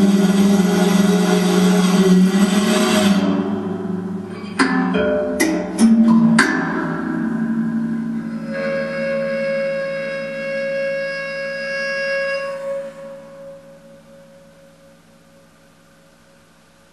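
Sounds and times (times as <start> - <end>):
bowed metal instrument note: 0.0 - 15.6.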